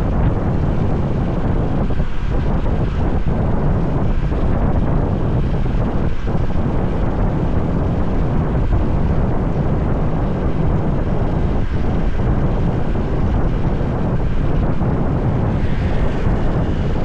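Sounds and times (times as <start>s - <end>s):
highway traffic noise: 0.0s - 17.0s
motorbike running: 0.0s - 17.0s
wind rushing on microphone: 0.0s - 17.0s.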